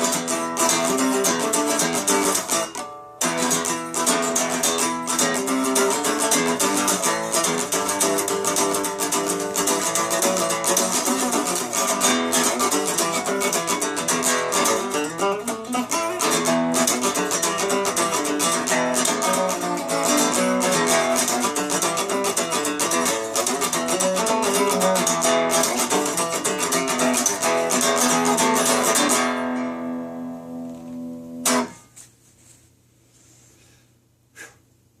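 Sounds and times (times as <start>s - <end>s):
guitar strumming and plucking: 0.0s - 31.9s.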